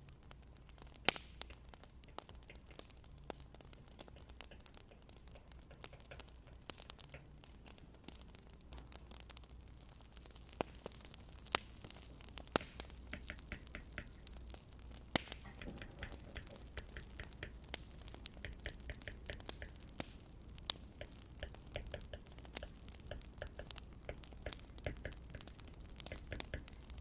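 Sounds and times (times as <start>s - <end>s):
firewood crackling: 0.0s - 27.0s.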